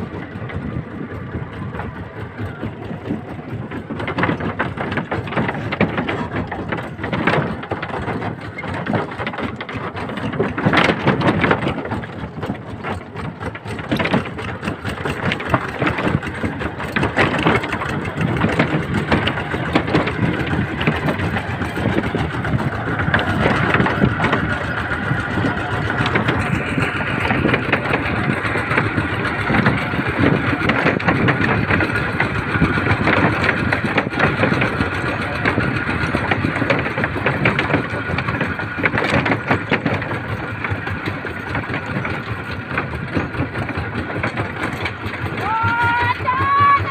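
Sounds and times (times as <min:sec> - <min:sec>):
tractor engine rattling: 0:00.0 - 0:46.9.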